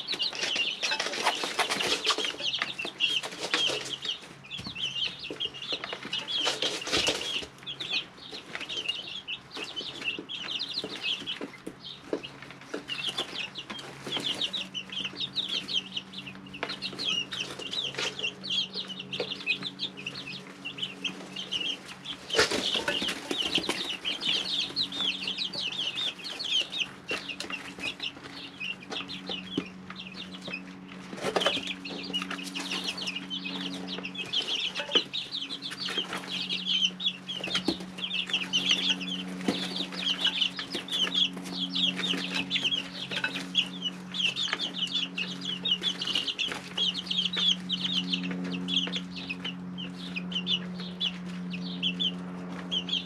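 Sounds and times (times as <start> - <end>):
chicks peeping: 0.0 - 53.0
steady low hum: 0.0 - 53.0.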